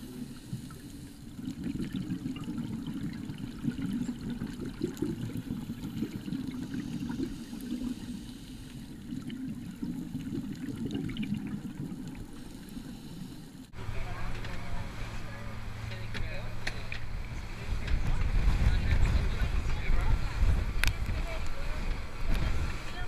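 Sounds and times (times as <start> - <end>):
underwater rush of water: 0.0 - 23.0.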